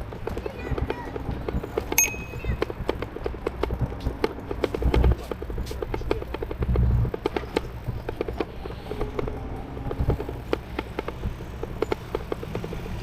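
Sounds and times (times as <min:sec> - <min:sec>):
bike rattling over paving: 0:00.0 - 0:13.0.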